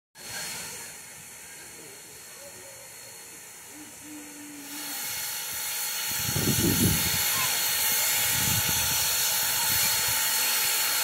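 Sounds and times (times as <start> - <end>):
steam locomotive hissing steam: 0.2 - 11.0.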